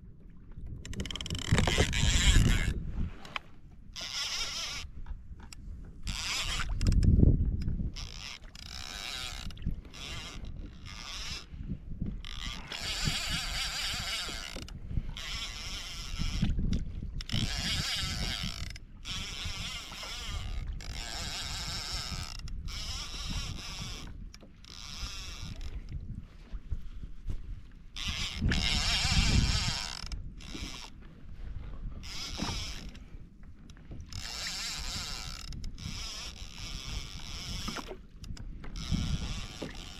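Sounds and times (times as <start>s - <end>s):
fishing reel whirring: 0.7s - 26.0s, 26.9s - 31.1s, 31.9s - 39.9s.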